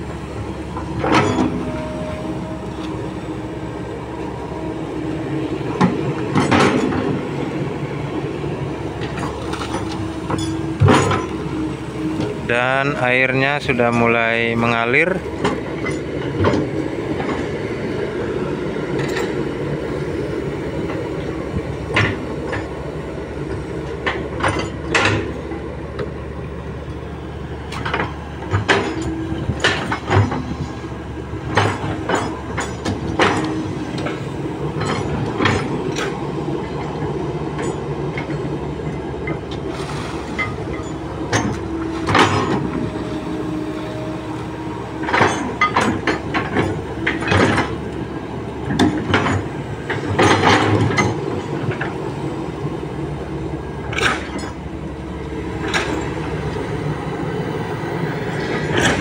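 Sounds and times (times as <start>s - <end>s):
excavator bucket clanking: 0.0s - 59.0s
excavator diesel engine running: 0.0s - 59.0s.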